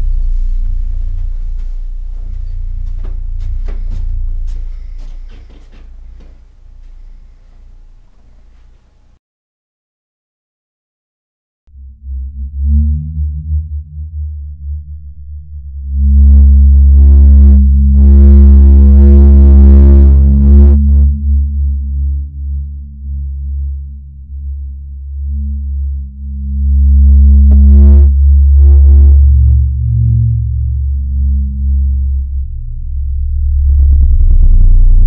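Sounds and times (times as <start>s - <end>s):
deep electronic drone: 0.0s - 9.2s, 11.7s - 35.0s.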